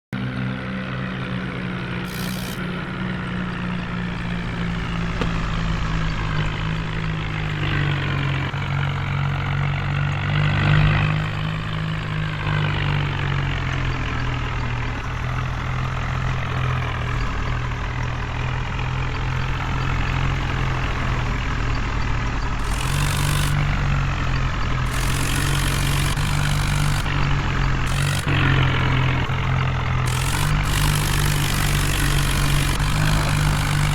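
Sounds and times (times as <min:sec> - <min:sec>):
heavy diesel engines running: 0:00.1 - 0:33.9.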